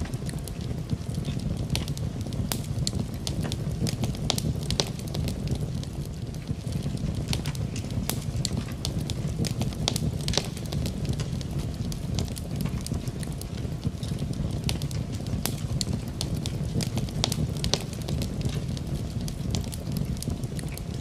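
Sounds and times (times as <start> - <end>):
rain hissing: 0.0 - 21.0
wood fire crackling and popping: 0.0 - 21.0.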